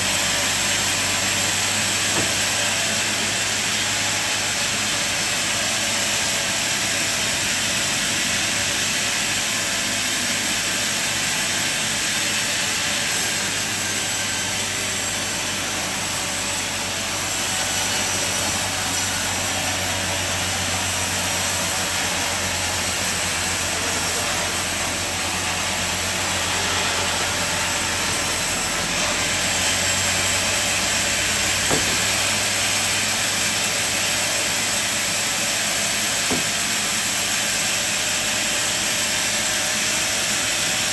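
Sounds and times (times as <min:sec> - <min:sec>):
saw hissing: 0:00.0 - 0:40.9.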